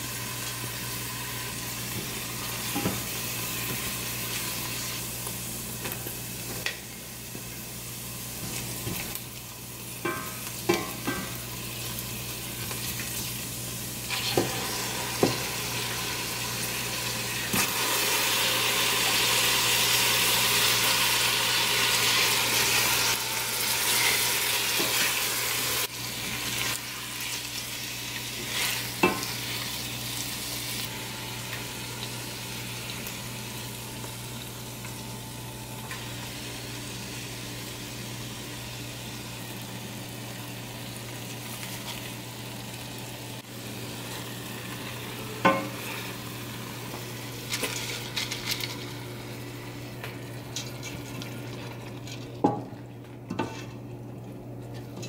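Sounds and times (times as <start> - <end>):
food sizzling in oil: 0.0 - 52.7.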